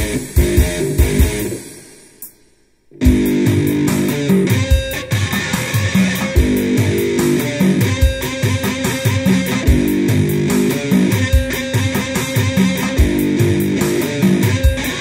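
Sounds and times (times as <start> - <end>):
amplified one-string metal riff: 0.0 - 2.3, 2.9 - 15.0.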